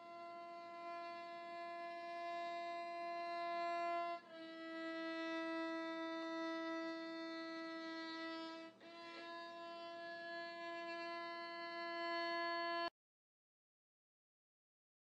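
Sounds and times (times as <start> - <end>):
violin playing long notes: 0.0 - 12.9.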